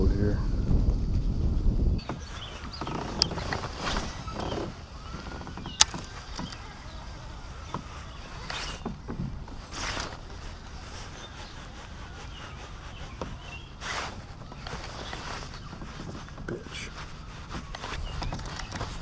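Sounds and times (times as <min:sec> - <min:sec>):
water sounds around kayak: 0:00.7 - 0:19.0.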